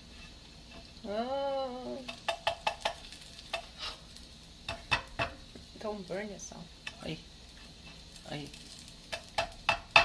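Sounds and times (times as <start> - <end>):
faint batter sizzling: 0.0 - 10.0.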